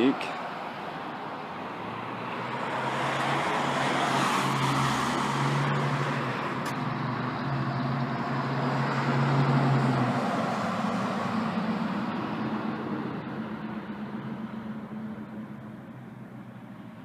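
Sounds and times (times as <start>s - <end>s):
tyre and road noise: 0.0s - 17.0s
vehicle engine hum: 0.0s - 17.0s.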